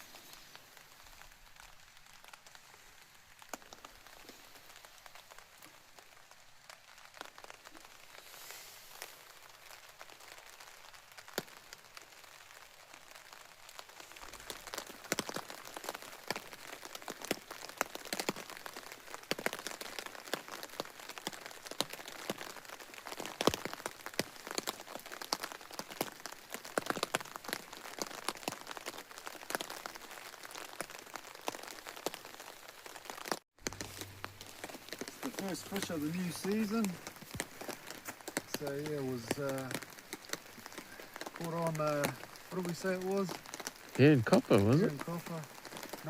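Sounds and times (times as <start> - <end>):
rain drops hitting a surface: 0.0 - 46.0.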